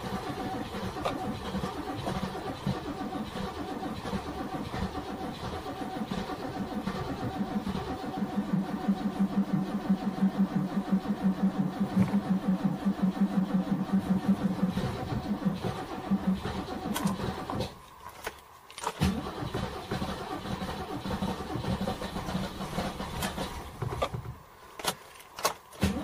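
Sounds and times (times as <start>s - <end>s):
race car engine idling: 0.0s - 17.6s, 19.1s - 24.2s.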